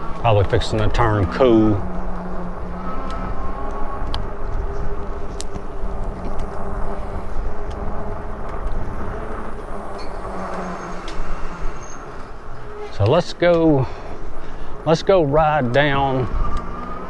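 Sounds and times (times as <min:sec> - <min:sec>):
bicycle riding rumble: 0:00.0 - 0:17.0.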